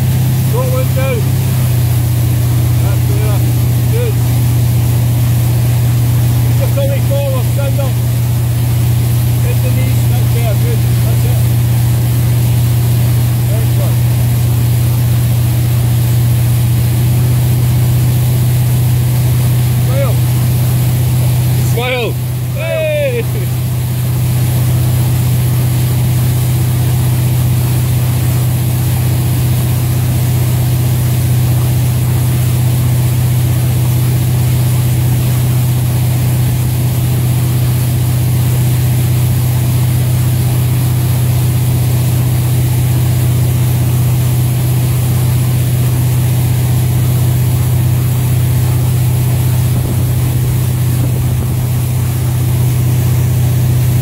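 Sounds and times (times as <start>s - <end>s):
boat engine humming: 0.0s - 54.0s
water rushing in wake: 0.0s - 54.0s.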